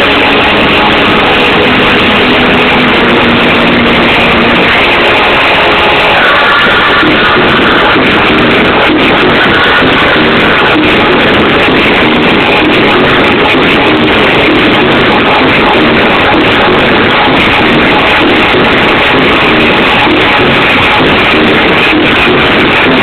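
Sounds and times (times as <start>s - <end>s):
high synth line: 0.0s - 23.0s
loud house music: 0.0s - 23.0s.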